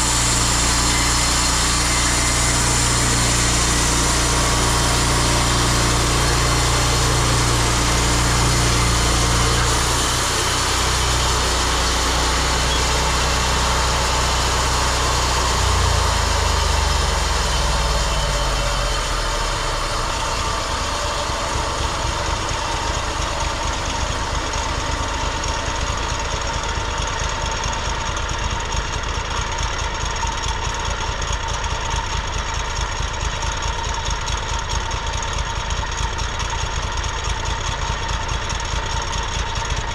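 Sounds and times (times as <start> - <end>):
gas engine running: 0.0 - 39.9.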